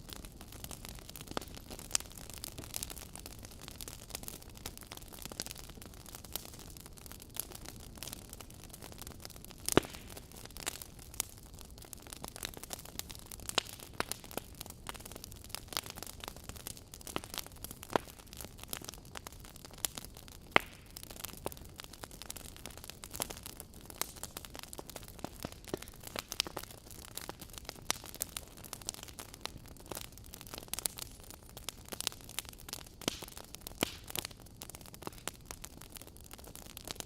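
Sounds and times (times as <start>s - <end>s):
fireplace crackling: 0.0s - 37.0s.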